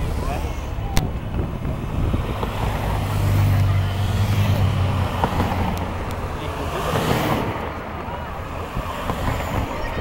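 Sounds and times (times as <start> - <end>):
car passing by: 1.4 - 10.0.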